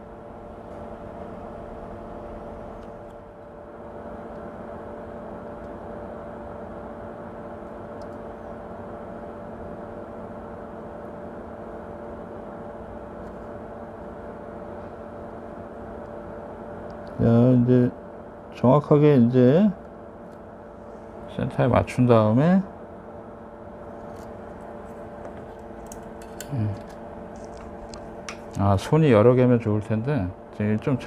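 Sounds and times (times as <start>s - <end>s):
electric fan hum: 0.0s - 31.0s.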